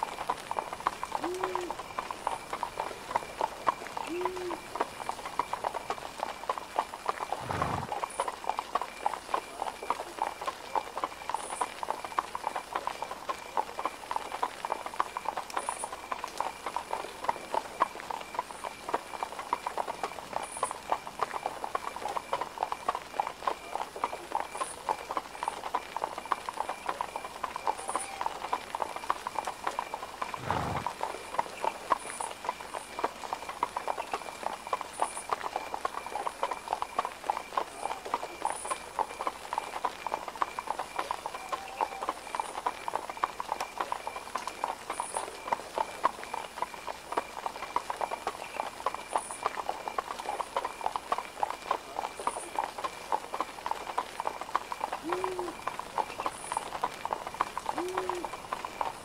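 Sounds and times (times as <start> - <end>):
horse hooves clip-clopping: 0.0 - 59.0.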